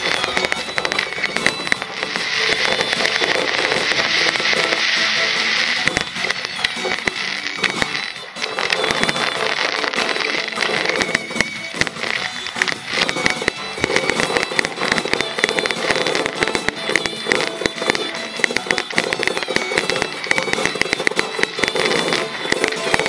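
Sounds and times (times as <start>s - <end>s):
fireworks crackling and popping: 0.0s - 23.0s
music playing: 0.0s - 23.0s.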